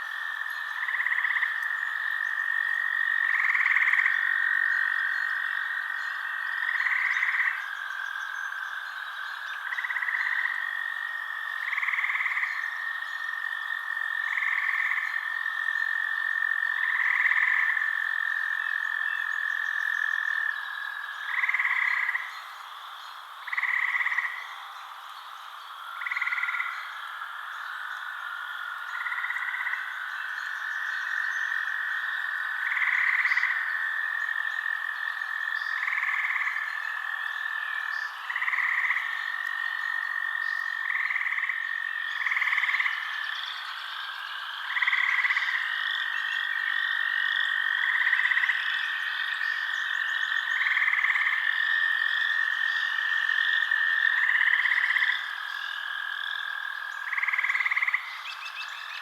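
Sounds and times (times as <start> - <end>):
frog calls: 0.0 - 59.0.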